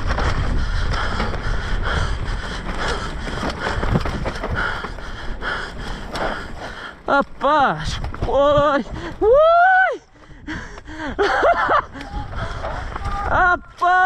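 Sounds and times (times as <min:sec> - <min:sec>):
wind rumble on microphone: 0:00.0 - 0:06.8, 0:07.7 - 0:13.8
bike clattering over bumps: 0:00.0 - 0:09.6, 0:10.2 - 0:14.0
bike tyres crunching on dirt: 0:00.0 - 0:14.0.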